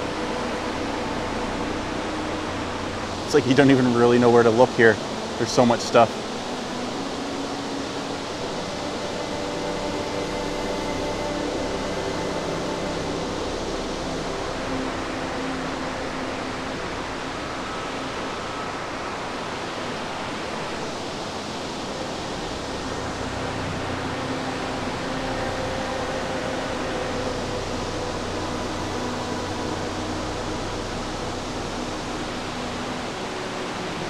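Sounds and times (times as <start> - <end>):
creek water rushing: 0.0 - 34.0.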